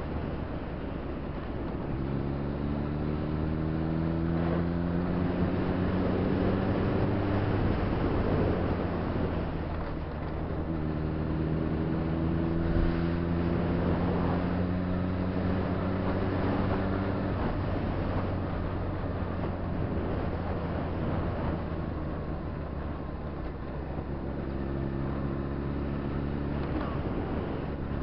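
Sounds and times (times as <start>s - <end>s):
wind rushing over microphone: 0.0s - 28.0s
motorcycle engine accelerating: 1.4s - 28.0s.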